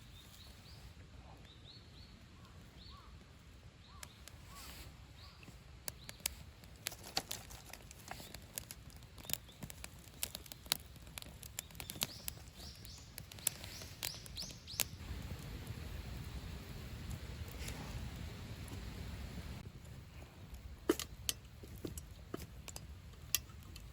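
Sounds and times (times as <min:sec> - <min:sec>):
campfire crackling and popping: 0:02.2 - 0:04.7, 0:05.5 - 0:23.9.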